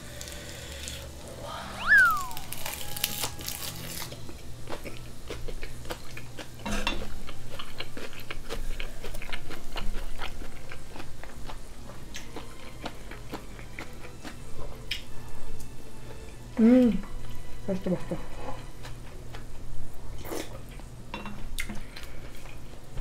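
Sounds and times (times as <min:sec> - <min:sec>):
chewing: 0:02.0 - 0:16.2, 0:18.4 - 0:22.8.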